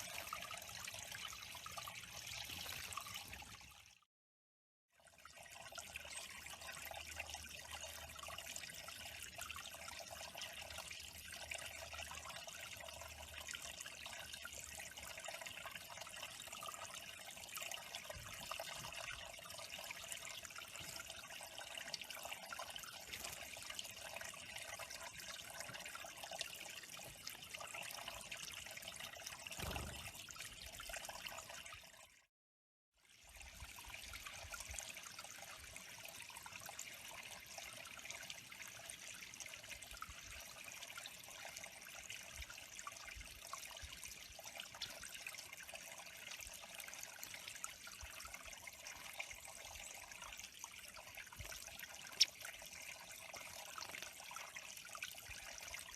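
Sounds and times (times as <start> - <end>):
water trickling: 0.0 - 4.1, 5.0 - 32.3, 33.0 - 55.9.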